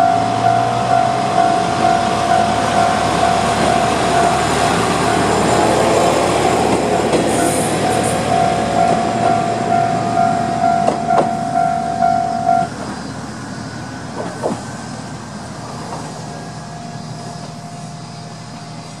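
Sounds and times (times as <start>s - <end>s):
level-crossing alarm ringing: 0.0s - 13.9s, 16.3s - 19.0s
diesel railcar running: 0.0s - 19.0s.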